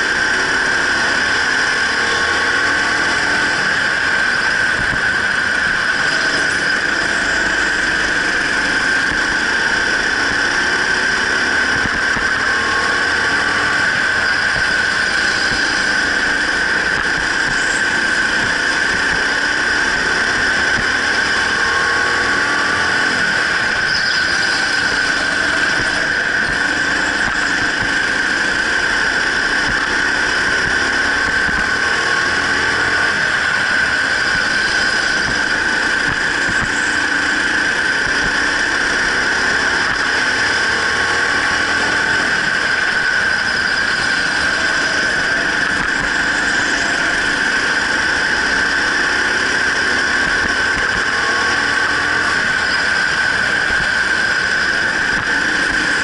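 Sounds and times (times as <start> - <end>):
go-kart engine whining: 0.0 - 56.0.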